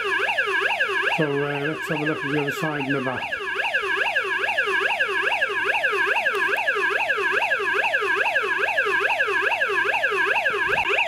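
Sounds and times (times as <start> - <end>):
toy siren fast yelp: 0.0 - 11.0.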